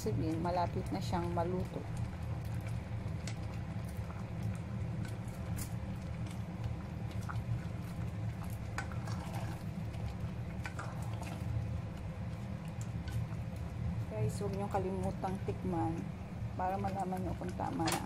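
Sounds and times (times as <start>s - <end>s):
broth simmering with bubbling pops: 0.0s - 18.0s
steady low hum: 0.0s - 18.0s.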